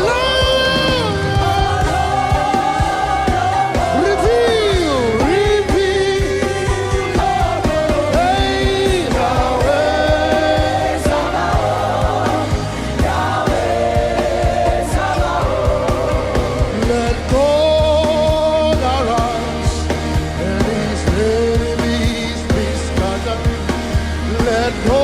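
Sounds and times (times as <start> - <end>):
band with bass and drums: 0.0 - 25.0
voices singing gospel: 0.0 - 25.0.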